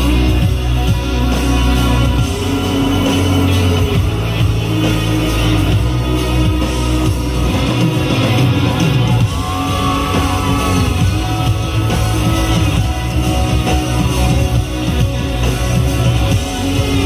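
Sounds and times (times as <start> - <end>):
live band playing pop-rock: 0.0 - 17.0
person singing: 0.0 - 17.0.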